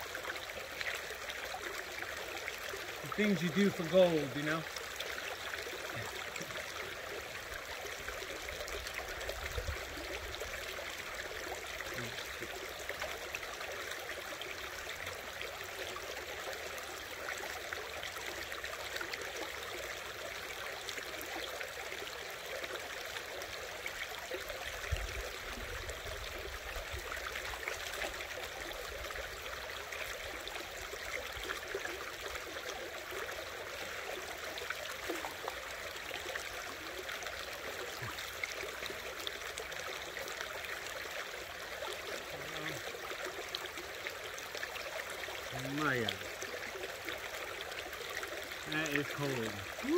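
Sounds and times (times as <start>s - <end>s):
creek water running over rocks: 0.0s - 49.9s.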